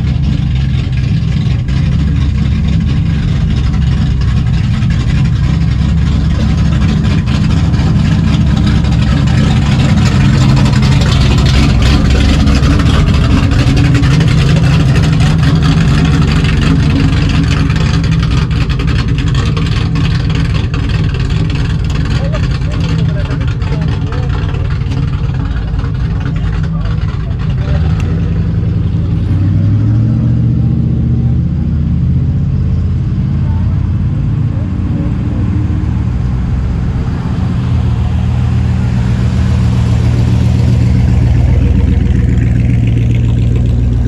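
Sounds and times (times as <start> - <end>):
car engines rumbling past: 0.0 - 44.0.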